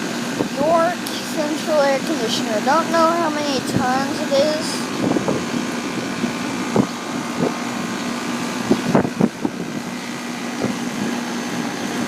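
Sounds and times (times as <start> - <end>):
air conditioner unit hum: 0.0 - 12.0
condenser fan rushing air: 0.0 - 12.0.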